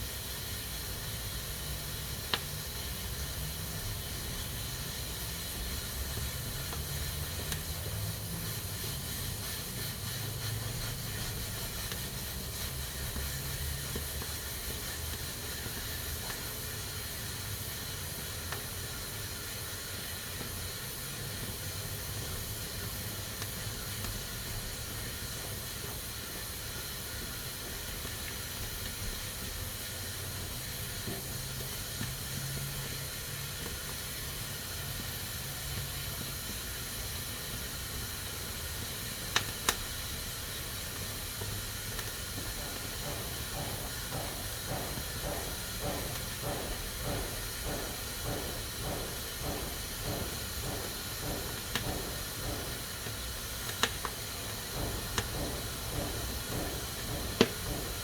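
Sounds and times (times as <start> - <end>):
pressure cooker hissing: 0.0 - 58.0.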